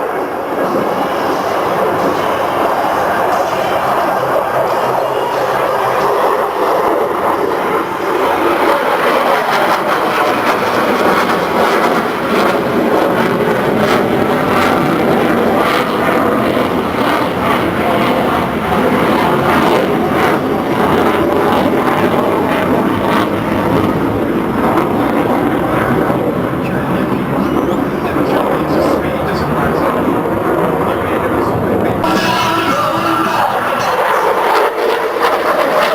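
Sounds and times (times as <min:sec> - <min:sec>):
aircraft engine in flight: 0:00.0 - 0:35.9.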